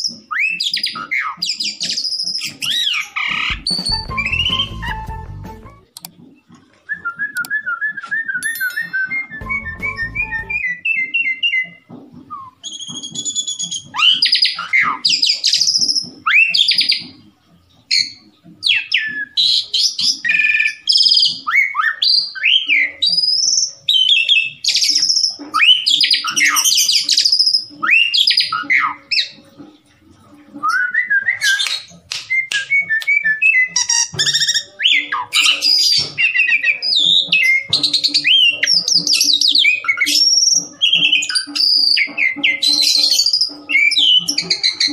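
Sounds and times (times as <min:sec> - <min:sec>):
starling singing whistles and chatter: 0:00.0 - 0:44.9.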